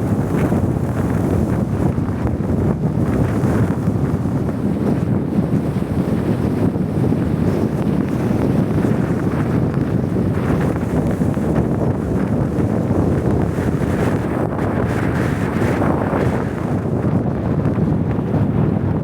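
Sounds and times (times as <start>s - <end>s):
blizzard wind rushing: 0.0s - 19.0s
wind buffeting microphone: 0.0s - 19.0s.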